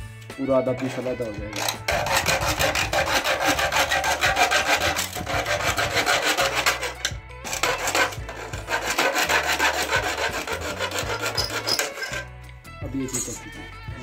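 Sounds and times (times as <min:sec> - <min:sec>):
hacksaw sawing plastic: 0:00.8 - 0:12.3.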